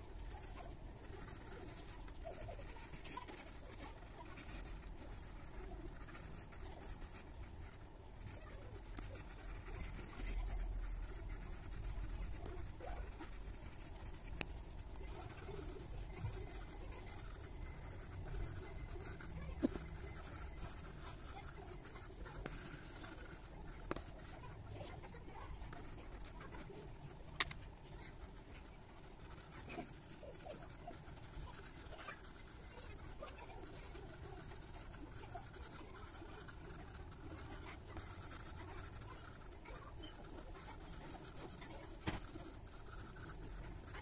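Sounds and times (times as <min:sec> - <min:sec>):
pencil scratching on paper: 0:00.0 - 0:44.0.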